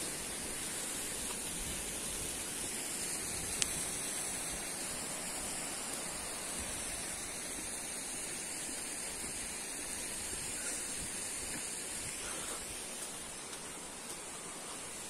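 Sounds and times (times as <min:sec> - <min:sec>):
river rushing hiss: 0:00.0 - 0:15.0.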